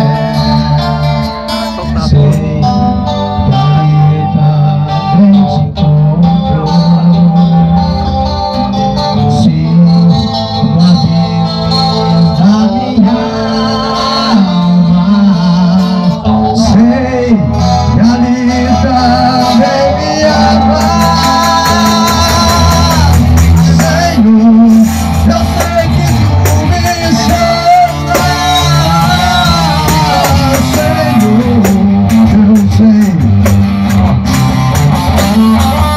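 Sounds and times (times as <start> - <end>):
bass line: 0.0 - 35.9
guitar: 0.0 - 35.9.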